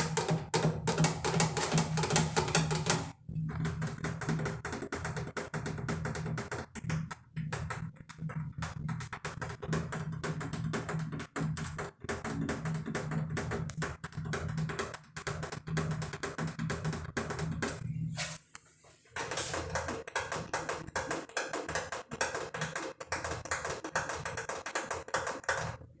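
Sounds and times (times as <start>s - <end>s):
fingers tapping on objects: 0.0s - 17.8s, 19.2s - 25.9s.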